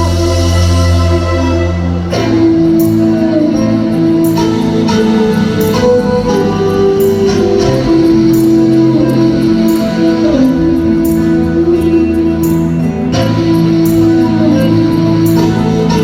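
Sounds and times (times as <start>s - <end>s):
bass guitar: 0.0s - 16.0s.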